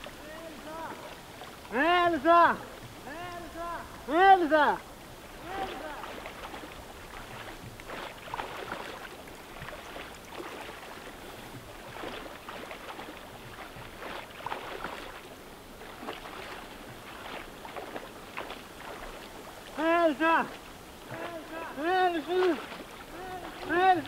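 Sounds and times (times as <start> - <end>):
lake waves lapping: 0.0 - 24.0.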